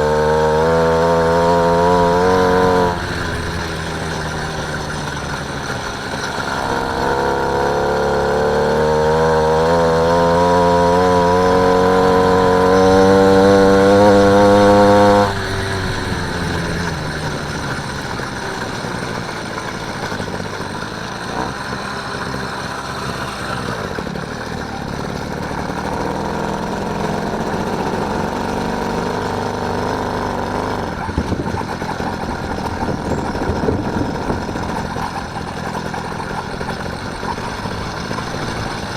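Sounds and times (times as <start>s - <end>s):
motorised bicycle engine: 0.0s - 38.9s.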